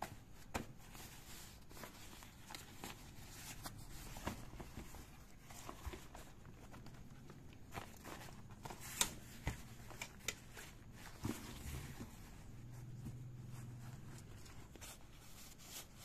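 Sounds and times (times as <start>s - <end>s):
fabric bag rustling: 0.0s - 16.0s.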